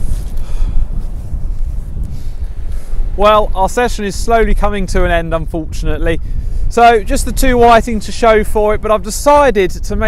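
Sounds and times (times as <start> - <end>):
faint surf on shingle: 0.0 - 10.0
wind buffeting microphone: 0.0 - 10.0.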